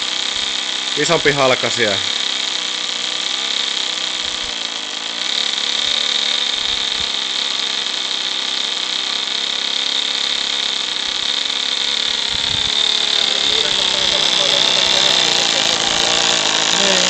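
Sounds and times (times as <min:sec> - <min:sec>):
model aircraft engine whining: 0:00.0 - 0:17.0.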